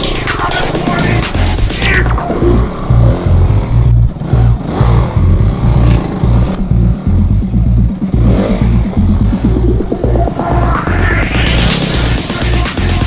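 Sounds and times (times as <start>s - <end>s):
electronic music with pulsing bass: 0.0s - 13.0s
motorcycle engine revving: 0.0s - 13.0s.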